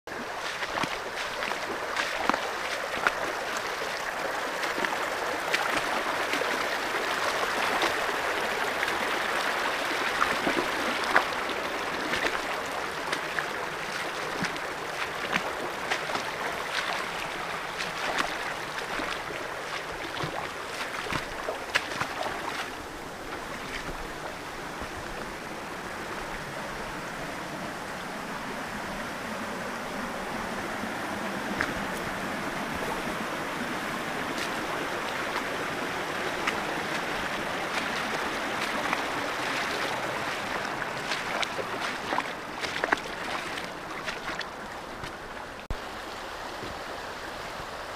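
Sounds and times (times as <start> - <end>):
footsteps splashing in water: 0.1 - 26.5, 31.4 - 45.8
creek running over rocks: 0.1 - 47.9.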